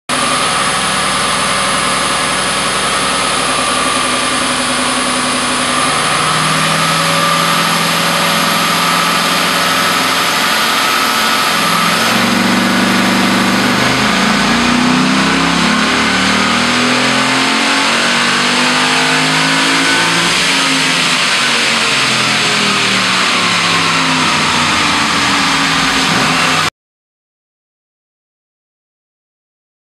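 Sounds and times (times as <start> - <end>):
car engine under load: 0.1 - 26.7.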